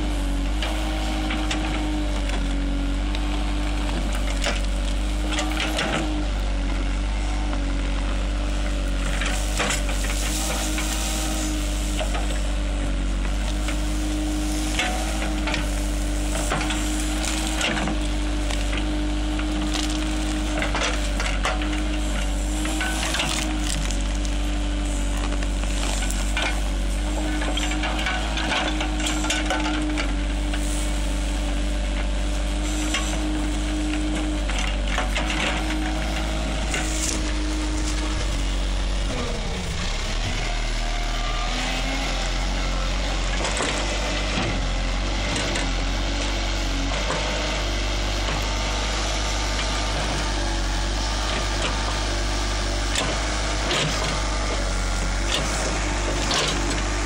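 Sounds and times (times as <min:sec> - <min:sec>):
diesel engine running under load: 0:00.0 - 0:57.0
roots crackling and snapping: 0:00.7 - 0:57.0.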